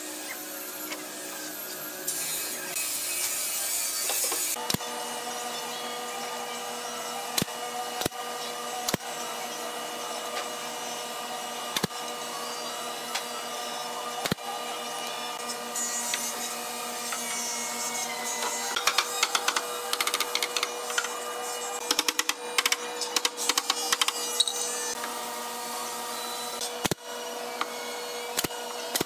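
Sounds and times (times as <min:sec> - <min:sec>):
workshop machine hum: 0:00.0 - 0:29.0.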